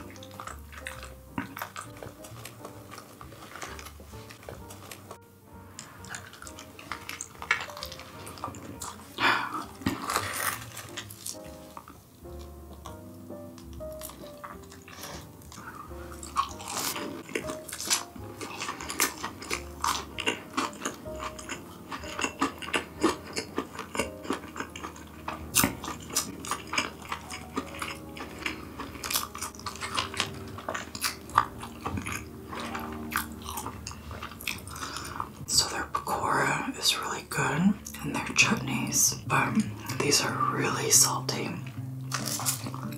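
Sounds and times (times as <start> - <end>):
person chewing crunchy food: 0.0 - 42.9
quiet background music: 0.0 - 42.9.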